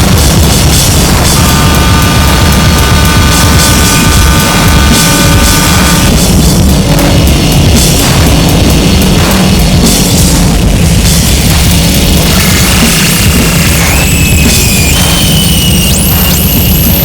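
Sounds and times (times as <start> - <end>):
distorted electronic noise: 0.0 - 17.0
drum kit: 0.0 - 17.0
steady high tones: 0.0 - 17.0
hissy treble surges: 0.1 - 17.0.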